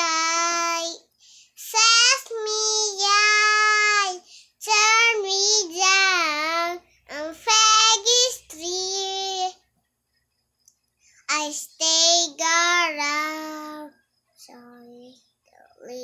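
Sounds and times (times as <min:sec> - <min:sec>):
girl singing unaccompanied: 0:00.0 - 0:09.6, 0:11.2 - 0:16.0.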